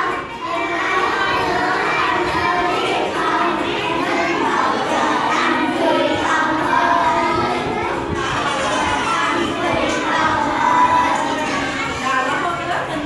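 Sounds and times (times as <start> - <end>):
children chattering and calling out: 0.0 - 13.0.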